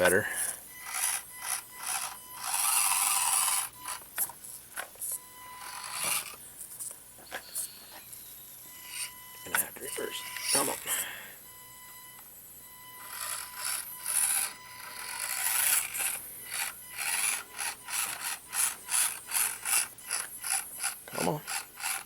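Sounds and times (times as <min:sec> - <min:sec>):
small electric motor whirring: 0:00.0 - 0:06.9, 0:08.7 - 0:11.1, 0:12.2 - 0:22.0.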